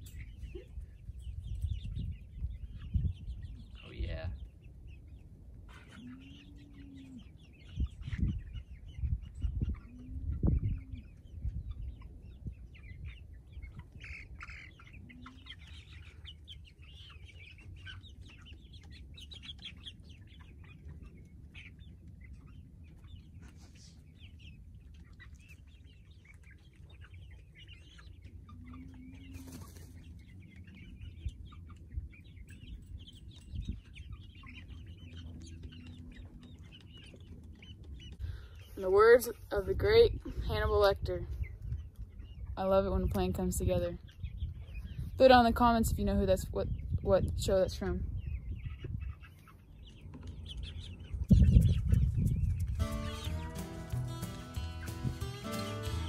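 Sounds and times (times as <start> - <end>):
hens clucking and chirping: 0.0 - 56.0.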